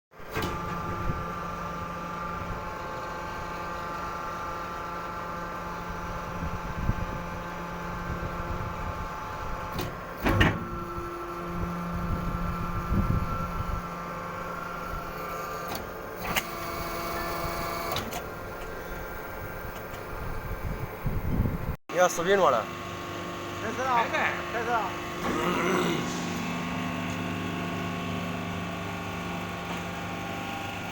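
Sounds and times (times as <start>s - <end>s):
hydraulic pump hum: 0.2s - 21.7s, 22.6s - 30.9s.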